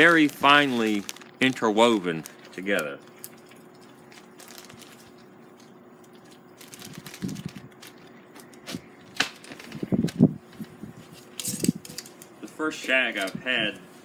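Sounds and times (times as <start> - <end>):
tobacco crackling and crinkling: 0.0 - 13.8.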